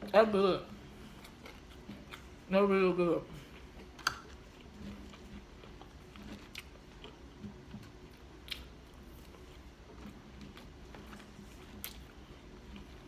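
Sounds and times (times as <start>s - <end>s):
person chewing food: 0.7s - 2.5s, 3.3s - 13.0s.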